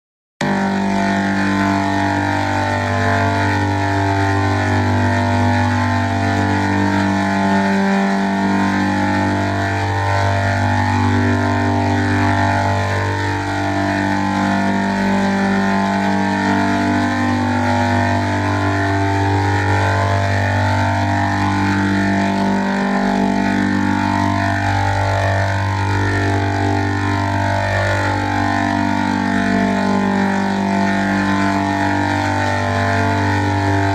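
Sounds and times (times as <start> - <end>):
loud pitched drone: 0.4 - 33.9.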